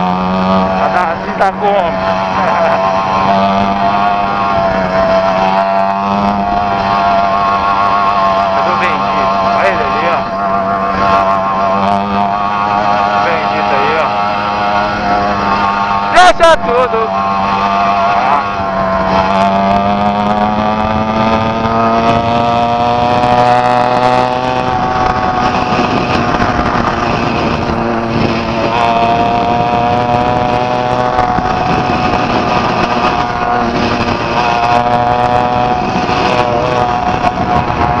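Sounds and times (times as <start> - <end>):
two-stroke engine running: 0.0 - 38.0.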